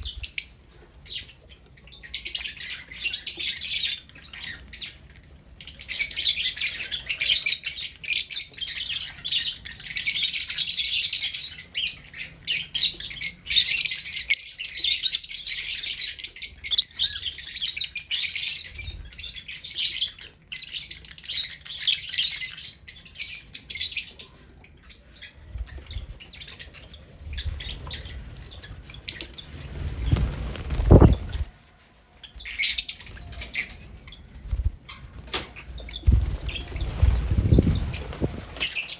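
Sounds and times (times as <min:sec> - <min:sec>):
lovebirds chirping: 0:00.0 - 0:31.6, 0:32.2 - 0:38.9.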